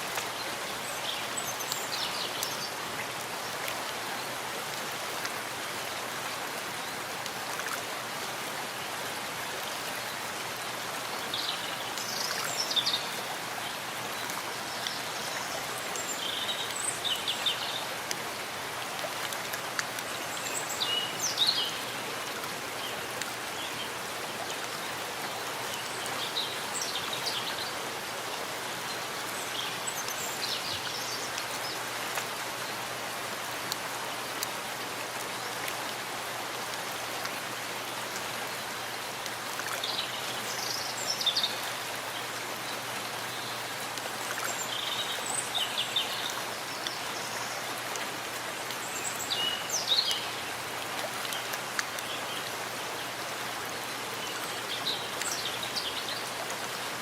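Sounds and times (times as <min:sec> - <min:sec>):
rain falling in forest: 0:00.0 - 0:57.0.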